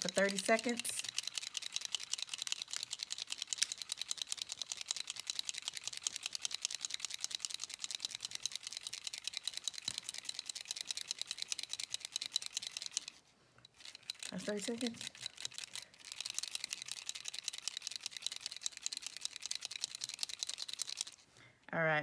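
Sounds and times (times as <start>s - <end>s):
ball rattling inside shaken pen: 0.0s - 21.3s.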